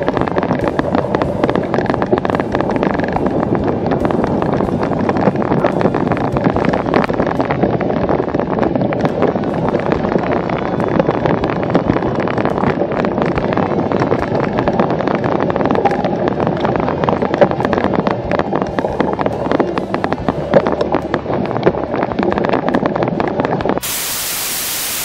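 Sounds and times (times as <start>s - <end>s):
wind buffeting microphone: 0.0s - 24.0s
bike tyres rumbling on grass: 0.0s - 24.2s.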